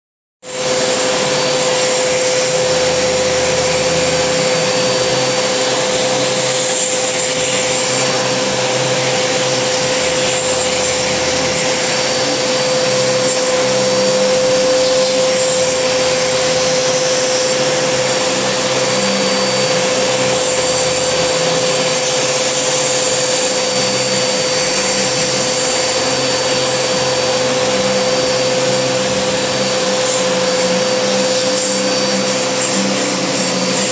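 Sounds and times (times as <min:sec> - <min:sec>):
vacuum cleaner running: 0:00.4 - 0:33.9.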